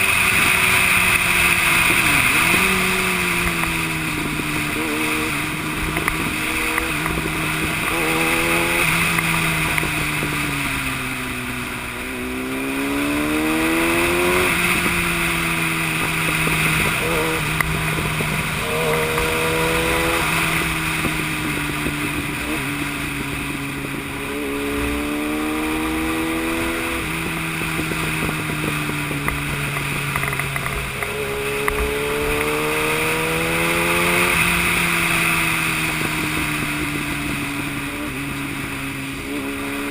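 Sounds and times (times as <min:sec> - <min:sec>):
motorbike engine accelerating: 0:00.0 - 0:39.9
wind noise: 0:00.0 - 0:39.9.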